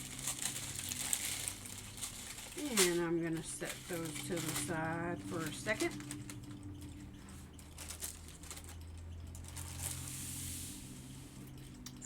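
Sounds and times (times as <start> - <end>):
plastic packets clicking: 0.0 - 10.1
plastic packet rustle: 0.0 - 12.0
steady low hum: 0.0 - 12.0.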